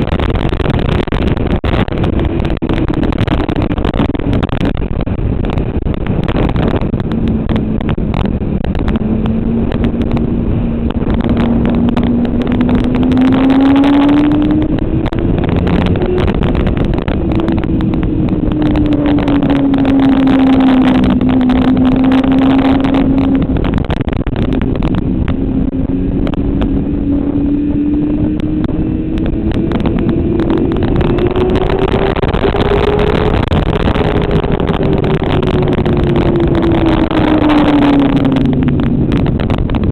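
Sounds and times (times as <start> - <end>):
motorcycle engine running hard: 0.0 - 39.9
wind rush: 0.0 - 39.9.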